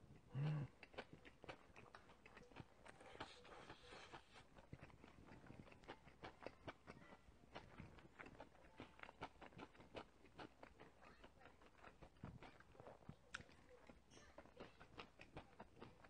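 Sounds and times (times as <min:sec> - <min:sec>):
chewing with wet mouth clicks: 0:00.1 - 0:16.0.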